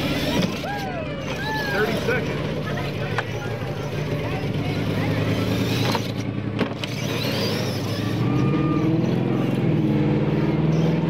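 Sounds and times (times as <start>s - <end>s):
toy truck motor droning: 0.0s - 11.0s.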